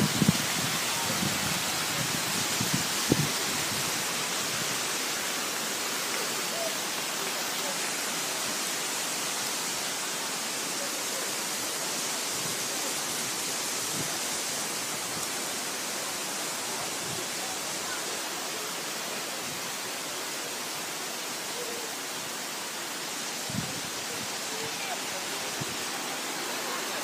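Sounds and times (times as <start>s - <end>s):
waterfall rushing hiss: 0.0s - 27.0s.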